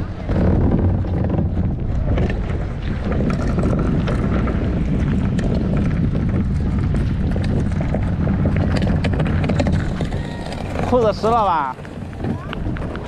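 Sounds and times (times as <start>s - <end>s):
plastic kayak scraping over rock: 0.0s - 13.0s
wind buffeting microphone: 0.0s - 13.0s.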